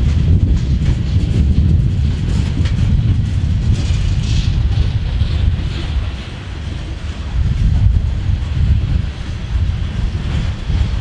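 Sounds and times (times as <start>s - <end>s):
train wheels rumbling and clacking: 0.0s - 11.0s.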